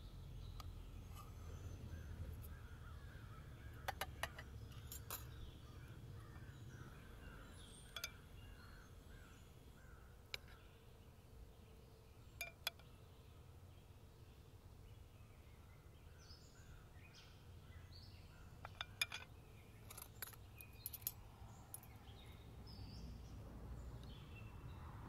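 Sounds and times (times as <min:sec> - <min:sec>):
birds chirping softly: 0:00.0 - 0:25.0.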